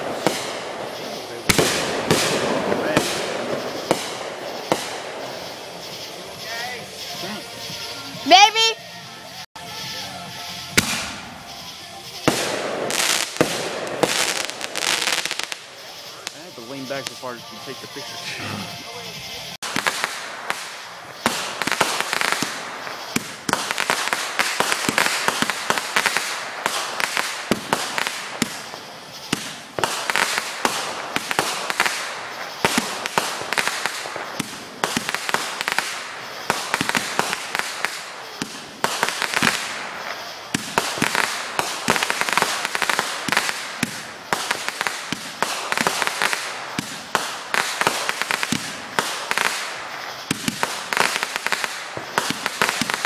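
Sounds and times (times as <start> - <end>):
fireworks popping and crackling: 0.0 - 53.0.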